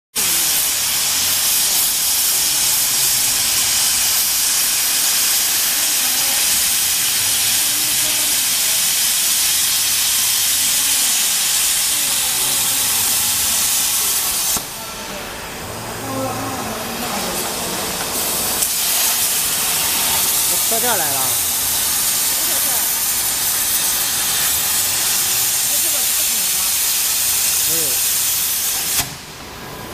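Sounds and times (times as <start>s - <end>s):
plasma torch hissing: 0.2s - 29.8s.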